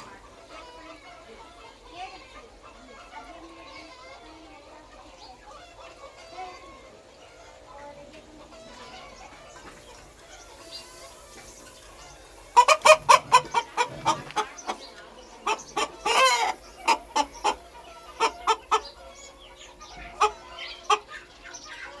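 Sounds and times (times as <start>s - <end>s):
chicken clucking: 0.0s - 22.0s.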